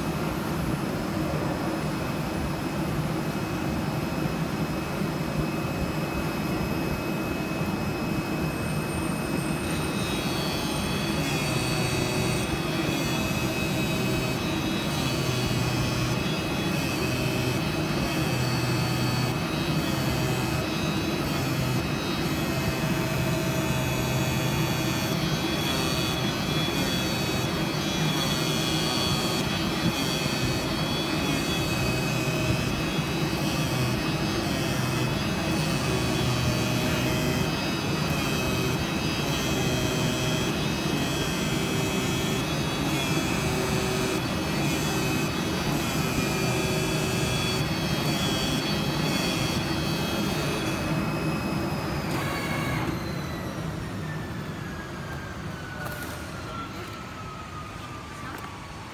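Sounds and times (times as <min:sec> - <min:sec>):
high machine whine: 0:00.0 - 0:58.9
cutting machine running: 0:04.6 - 0:58.5.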